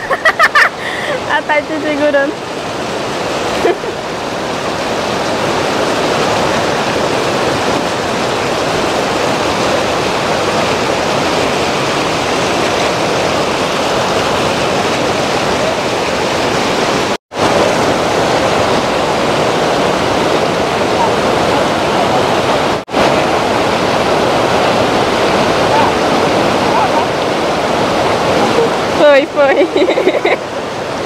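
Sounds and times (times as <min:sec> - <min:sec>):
river rapids roaring: 0:00.0 - 0:31.0.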